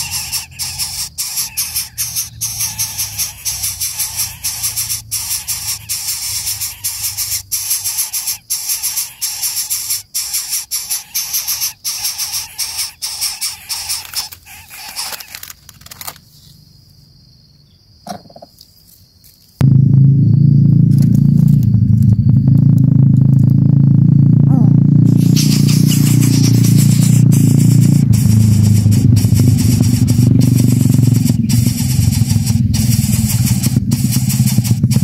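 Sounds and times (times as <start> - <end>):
high-pitched insect chorus: 0.0 - 19.6, 24.6 - 35.0.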